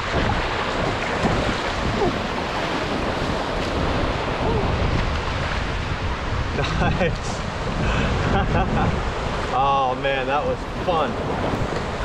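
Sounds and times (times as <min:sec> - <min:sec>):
surf breaking: 0:00.0 - 0:12.0
whitewater rushing: 0:00.0 - 0:12.0
wind buffeting microphone: 0:00.0 - 0:12.0.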